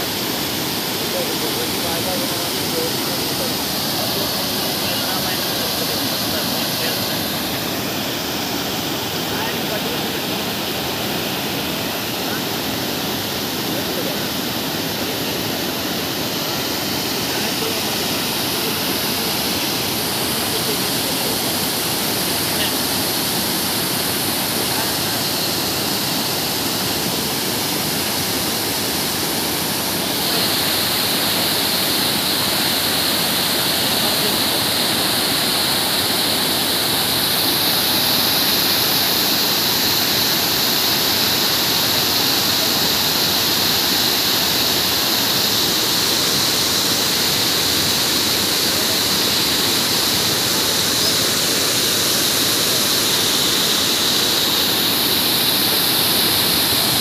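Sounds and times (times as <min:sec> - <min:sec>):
water rushing over weir: 0:00.0 - 0:57.0.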